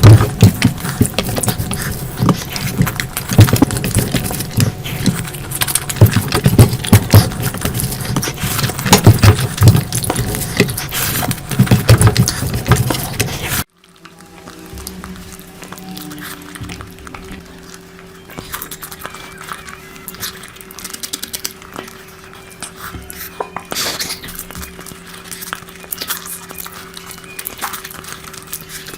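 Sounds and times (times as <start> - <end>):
chewing and smacking food: 0.0 - 28.9.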